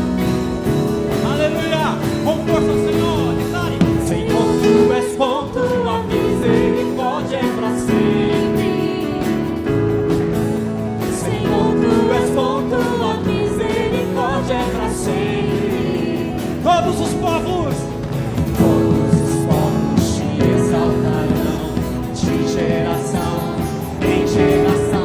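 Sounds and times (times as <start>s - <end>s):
held instrumental chords: 0.0s - 25.0s
several voices singing: 0.0s - 25.0s.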